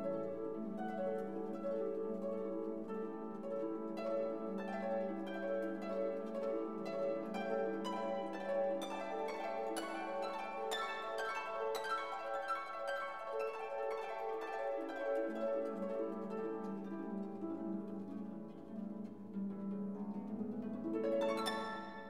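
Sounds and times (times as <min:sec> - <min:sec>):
plucked string music: 0:00.0 - 0:22.0.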